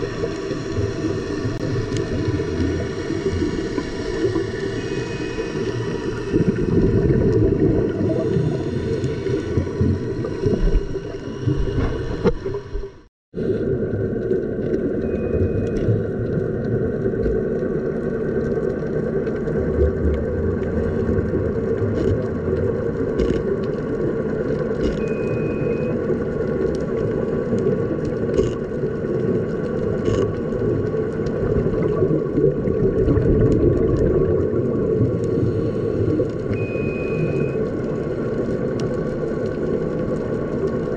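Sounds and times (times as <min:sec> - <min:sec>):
faint hum of steady tones: 0:00.0 - 0:13.8, 0:14.7 - 0:40.9
underwater rumble and wash: 0:00.0 - 0:40.9.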